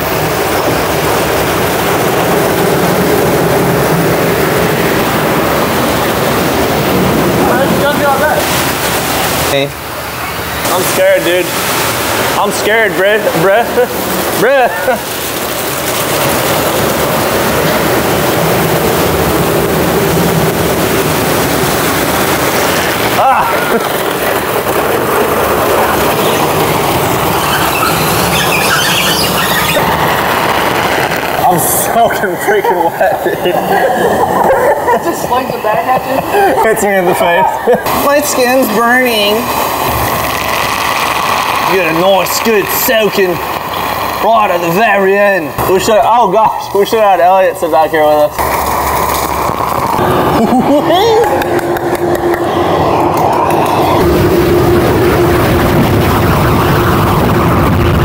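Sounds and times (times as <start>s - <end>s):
low motor hum: 0.0s - 42.3s, 48.3s - 58.0s
car wash machinery noise: 0.0s - 58.0s
water spraying: 0.0s - 58.0s.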